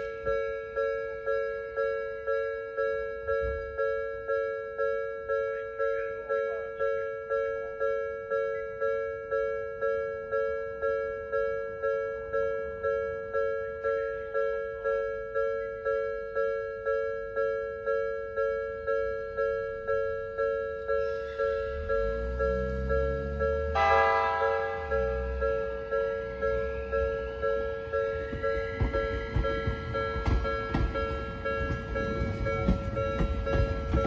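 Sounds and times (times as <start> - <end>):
level crossing two-tone bell: 0.0 - 34.0.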